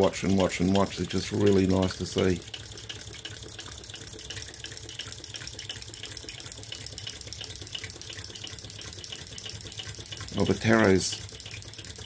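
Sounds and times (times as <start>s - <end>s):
pump strokes pulsing: 0.0s - 12.0s
water splashing into trough: 0.0s - 12.0s.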